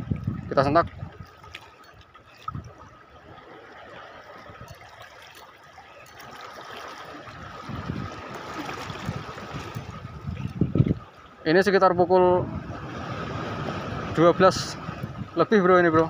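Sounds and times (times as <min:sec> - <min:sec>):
seawater lapping against rocks: 0:00.0 - 0:16.0.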